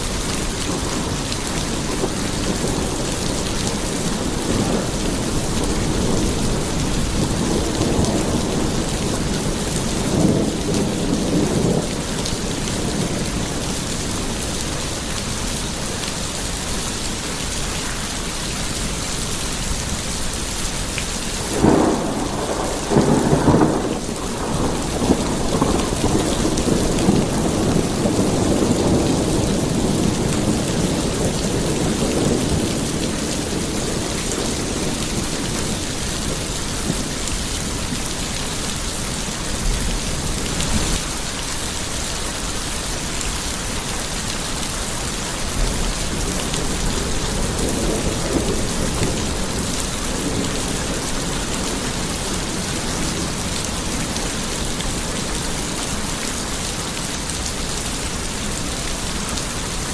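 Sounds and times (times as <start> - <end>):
thunder rumbling: 0.0 - 41.6, 42.4 - 59.9
steady rain falling: 0.0 - 59.9.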